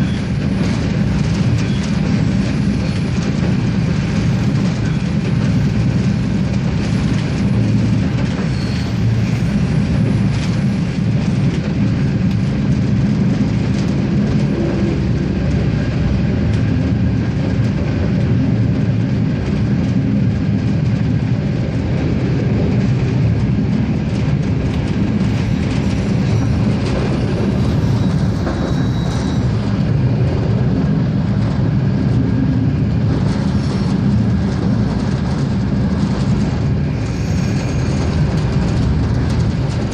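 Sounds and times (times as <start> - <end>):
diesel railcar rumbling on track: 0.0 - 39.9.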